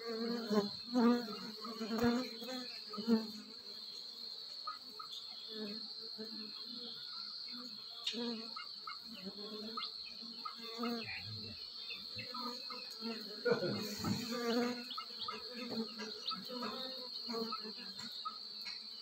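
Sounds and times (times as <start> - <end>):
bees flying by: 0.0 - 19.0
high-pitched insect trill: 0.0 - 19.0
honeybees buzzing: 0.0 - 19.0.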